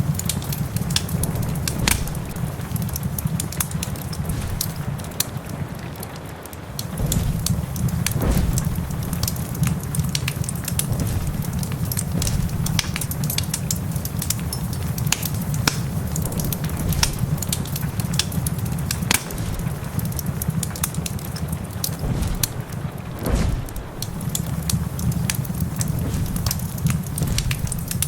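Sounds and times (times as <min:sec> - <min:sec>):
fire popping and snapping: 0:00.0 - 0:28.0
low rumble and hiss: 0:00.0 - 0:28.0
wood fire crackling: 0:00.0 - 0:28.0.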